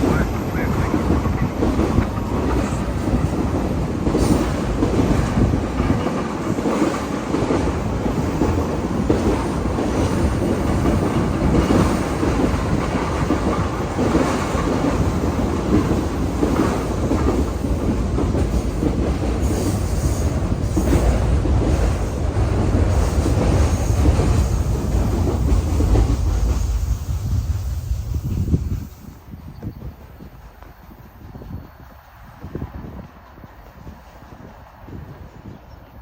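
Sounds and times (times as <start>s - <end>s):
train cars rumbling past: 0.0s - 36.0s.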